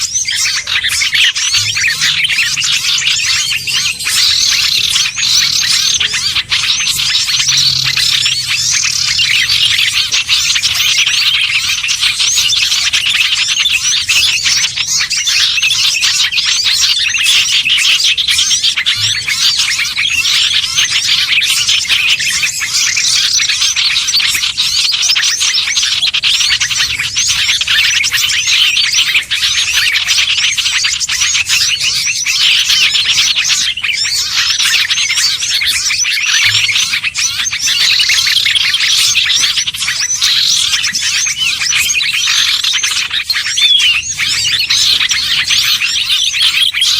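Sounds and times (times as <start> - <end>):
songbirds chirping and twittering: 0.0 - 46.9.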